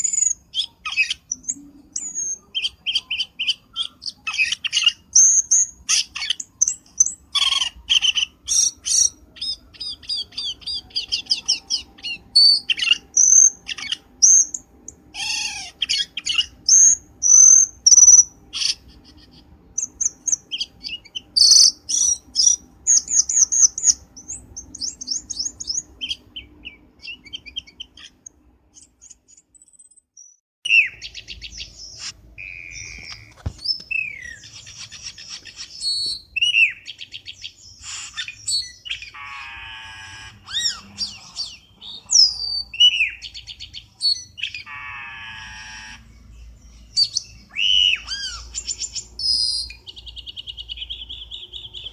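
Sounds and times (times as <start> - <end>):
bird chirps whistles and trills: 0.0 - 51.9.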